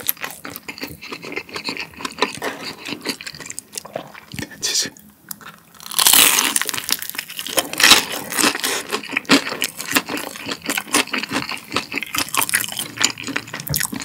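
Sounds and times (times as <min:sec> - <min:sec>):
crunchy chewing: 0:00.0 - 0:04.6, 0:05.3 - 0:14.0.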